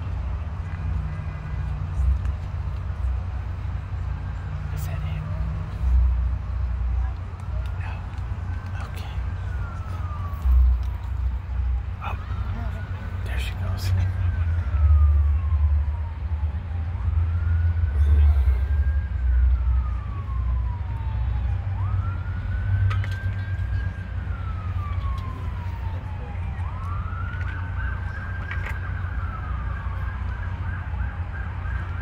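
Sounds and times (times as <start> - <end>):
emergency siren wailing: 0.0 - 32.0.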